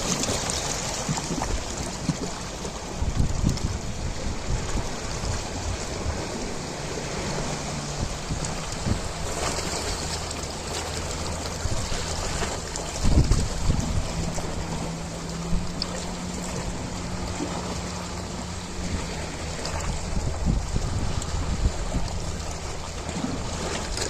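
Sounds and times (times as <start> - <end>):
low water surge: 0.0 - 24.0
ocean water splashing: 0.0 - 24.0
steady low hum: 2.3 - 24.0.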